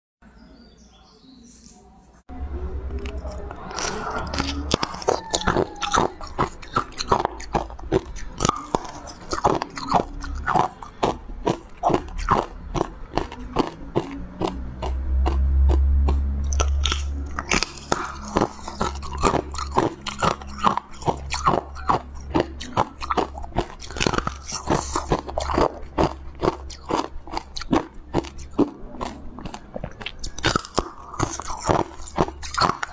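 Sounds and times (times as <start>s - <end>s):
low rumble: 2.3s - 32.9s
ice being chewed: 2.9s - 32.9s.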